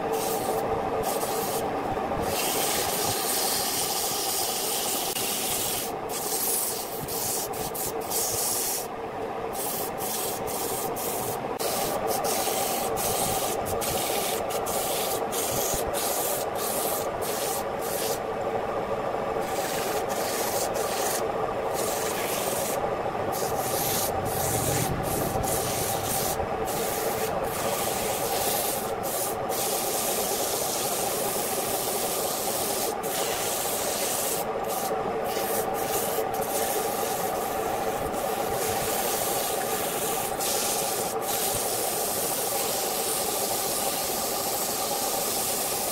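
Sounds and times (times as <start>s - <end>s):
sandpaper rasping on spinning wood: 0.1s - 8.9s, 9.6s - 18.2s, 19.4s - 45.9s.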